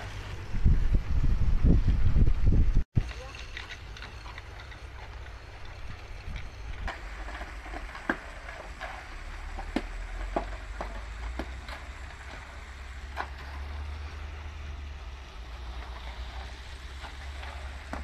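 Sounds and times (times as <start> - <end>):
diesel engine rumbling: 0.0 - 18.0
sharp knocks and scrapes: 3.0 - 18.0.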